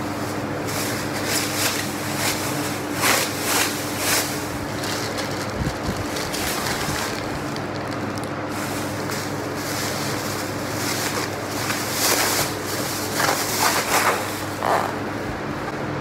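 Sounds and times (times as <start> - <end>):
steady hiss and hum: 0.0 - 16.0
plastic bag crinkling: 0.1 - 15.0.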